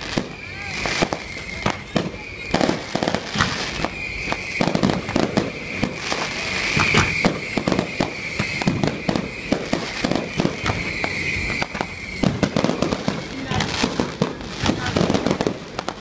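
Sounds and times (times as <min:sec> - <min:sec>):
fireworks bangs: 0:00.0 - 0:16.0
high-pitched firework whistle: 0:00.0 - 0:16.0.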